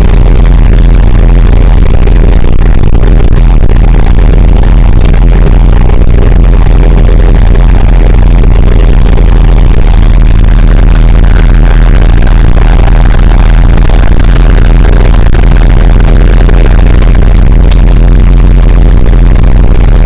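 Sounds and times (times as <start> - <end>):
overdriven low hum with hiss: 0.0 - 20.0.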